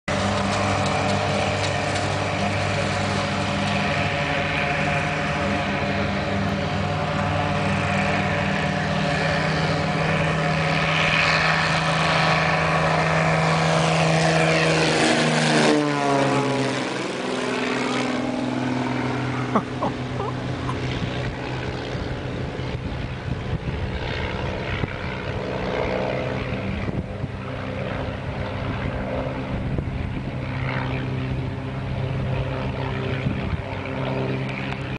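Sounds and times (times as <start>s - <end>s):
propeller plane engine passing: 0.0s - 34.9s.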